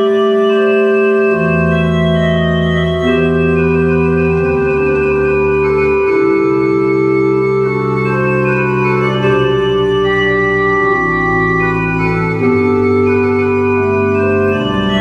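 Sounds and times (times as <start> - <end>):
pipe organ chords: 0.0 - 15.0.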